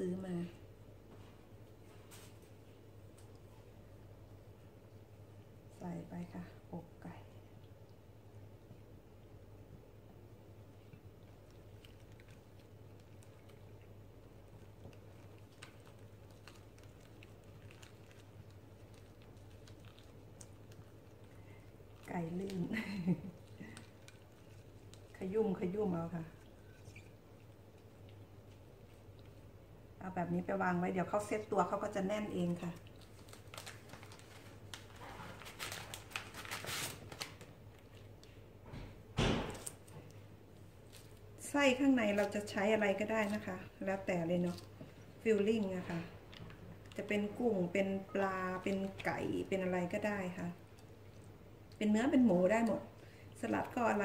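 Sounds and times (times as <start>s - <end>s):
low steady hum: 0.0s - 54.0s
faint rustling of food: 0.3s - 54.0s.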